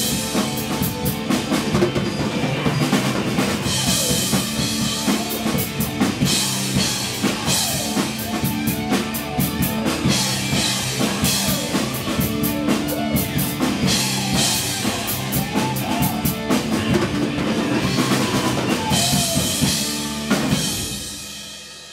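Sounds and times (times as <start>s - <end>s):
rock song with electric guitar: 0.0s - 21.4s
drum kit playing: 0.0s - 21.9s.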